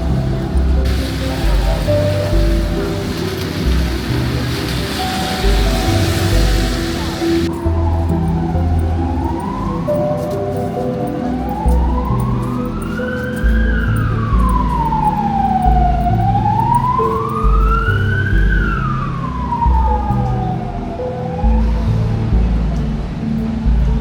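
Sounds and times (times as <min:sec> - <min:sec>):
emergency vehicle siren wailing: 0:00.0 - 0:23.2
background music with deep bass: 0:00.0 - 0:24.0.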